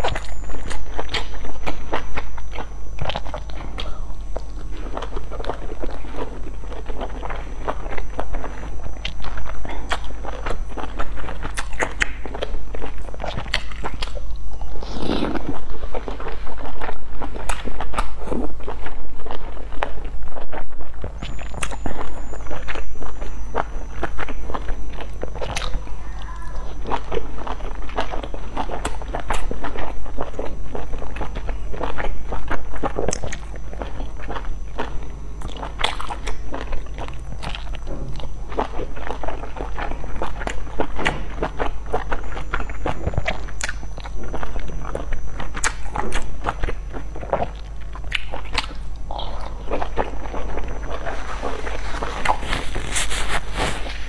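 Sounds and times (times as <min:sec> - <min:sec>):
person chewing dumplings: 0:00.0 - 0:54.0
steady low hum: 0:00.0 - 0:54.0.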